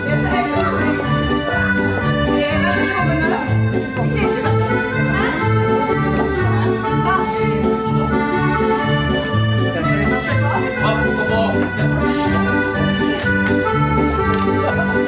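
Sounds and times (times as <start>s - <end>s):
accordion dance music: 0.0s - 15.0s.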